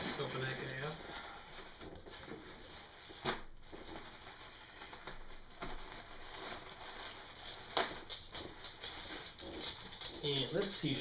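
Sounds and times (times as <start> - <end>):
t-shirt rustling and crinkling: 0.0 - 11.0.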